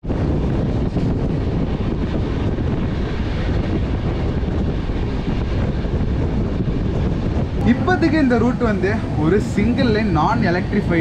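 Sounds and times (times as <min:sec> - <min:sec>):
train rumbling at speed: 0:00.0 - 0:11.0
wind buffeting microphone: 0:00.0 - 0:11.0.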